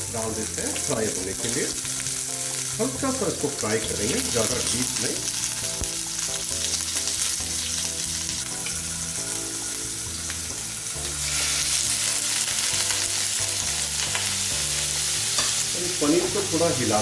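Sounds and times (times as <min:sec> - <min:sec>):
cheese cubes sizzling in hot oil: 0:00.0 - 0:17.0.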